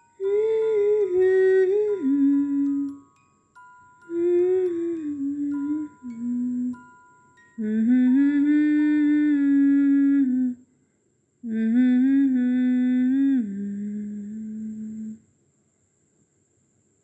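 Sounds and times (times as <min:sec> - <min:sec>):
person humming a slow melody: 0:00.0 - 0:10.7, 0:11.4 - 0:15.3.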